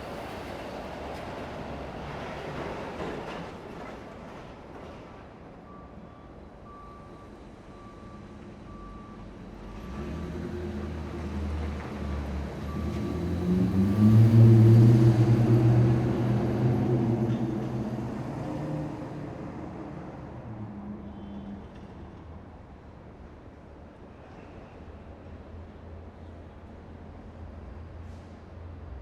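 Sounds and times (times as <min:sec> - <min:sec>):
city traffic: 0:00.0 - 0:29.0.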